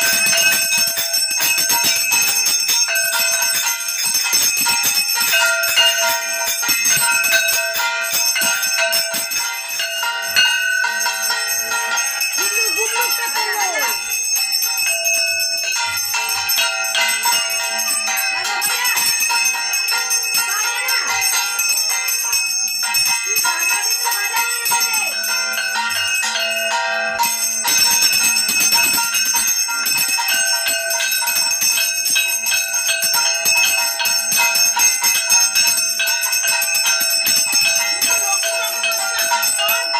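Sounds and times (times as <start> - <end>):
hand bell ringing rapidly: 0.0 - 39.9.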